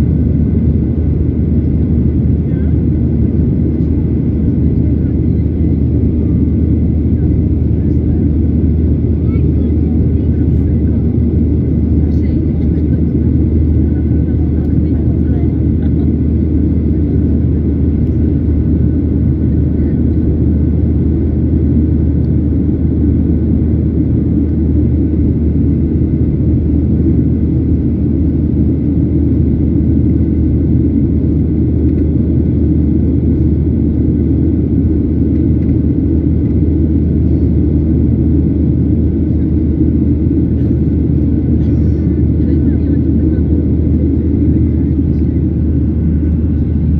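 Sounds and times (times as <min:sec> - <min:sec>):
aircraft cabin drone: 0:00.0 - 0:46.9.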